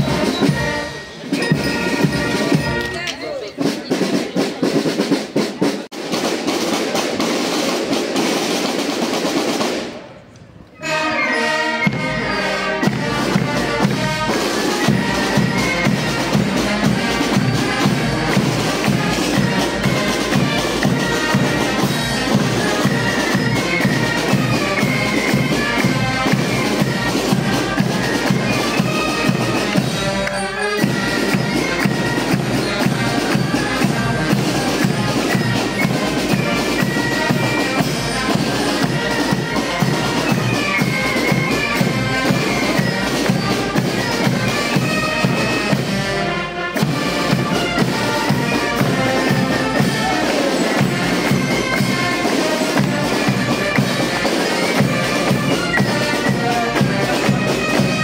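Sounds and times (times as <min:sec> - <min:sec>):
steady drumbeat: 0:00.0 - 0:10.1, 0:11.8 - 0:58.0
wind instruments playing a tune: 0:00.0 - 0:58.0.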